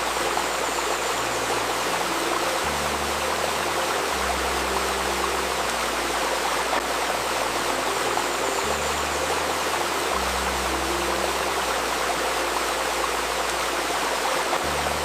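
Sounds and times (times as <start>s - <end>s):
babbling stream: 0.0s - 15.0s
soft low sustained tones: 0.0s - 15.0s.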